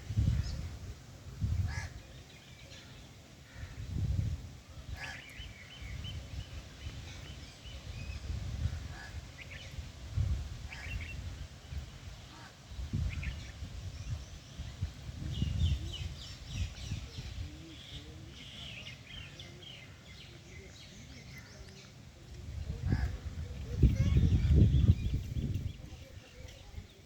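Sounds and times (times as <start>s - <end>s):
birds calling: 1.4s - 27.0s.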